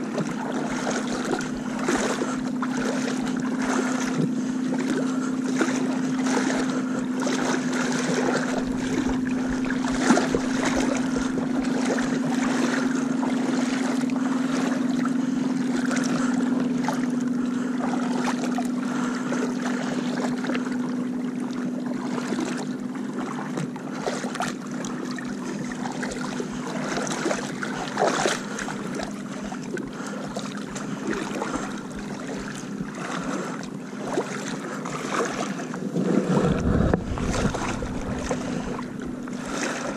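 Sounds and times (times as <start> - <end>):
boat motor running: 0.0 - 39.9
water noise: 0.0 - 39.9
wind: 0.0 - 39.9.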